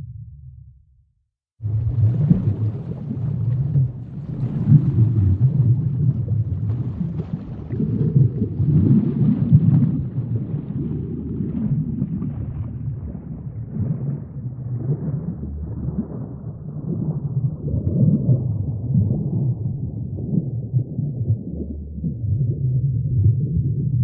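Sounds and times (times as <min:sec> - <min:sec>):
deep low rumble: 0:00.0 - 0:24.0.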